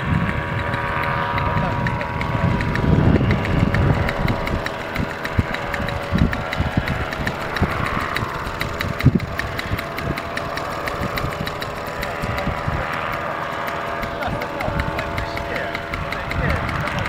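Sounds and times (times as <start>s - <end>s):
small engine running: 0.0s - 17.0s
wind rumbling on microphone: 0.0s - 17.0s.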